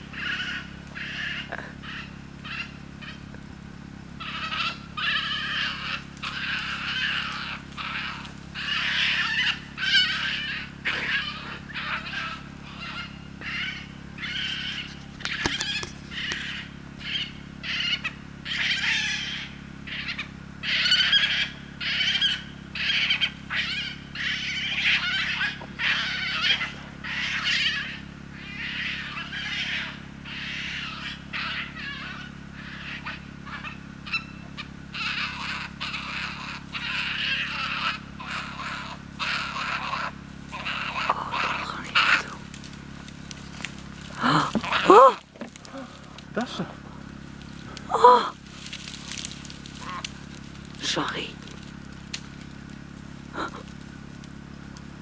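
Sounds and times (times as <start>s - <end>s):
badgers squealing: 0.0s - 3.4s, 4.1s - 51.5s, 53.3s - 53.8s
faint steady hum: 0.0s - 55.0s.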